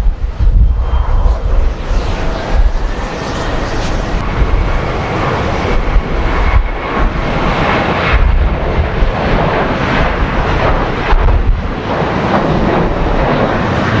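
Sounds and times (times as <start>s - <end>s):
gusty wind buffeting microphone: 0.0s - 14.0s.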